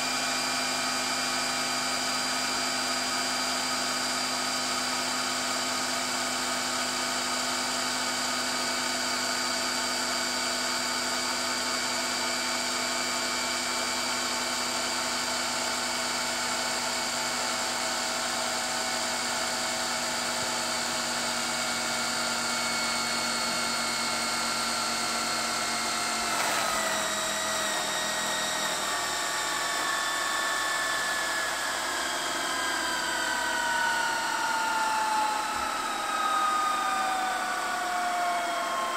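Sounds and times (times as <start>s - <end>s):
tape recorder fast-winding whine: 0.0s - 38.9s.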